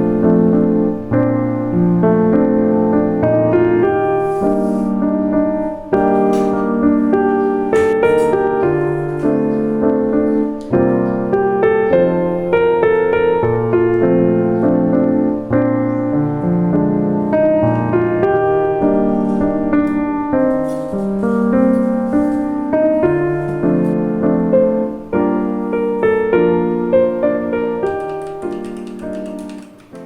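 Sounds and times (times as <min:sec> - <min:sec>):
calm solo piano: 0:00.0 - 0:30.0.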